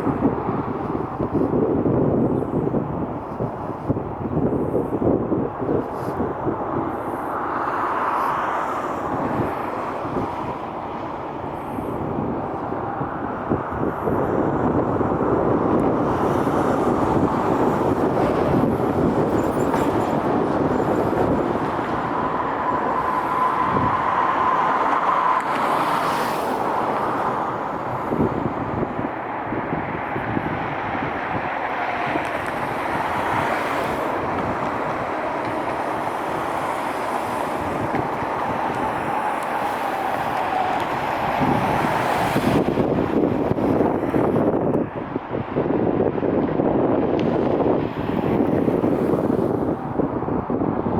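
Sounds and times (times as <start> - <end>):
jet airliner engines rumbling: 0.0 - 50.9
wind buffeting microphone: 0.0 - 50.9.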